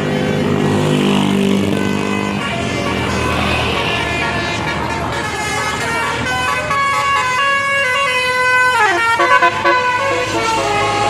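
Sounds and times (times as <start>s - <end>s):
bus engine running: 0.0s - 11.0s
multi-tone bus horn: 0.0s - 11.0s.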